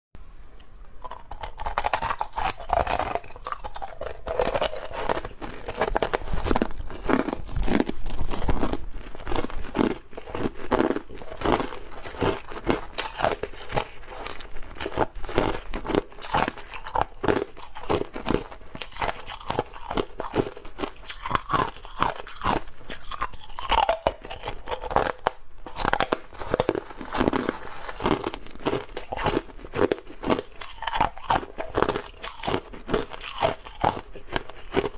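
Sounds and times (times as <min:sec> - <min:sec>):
crunching and chewing ice: 0:01.0 - 0:34.9.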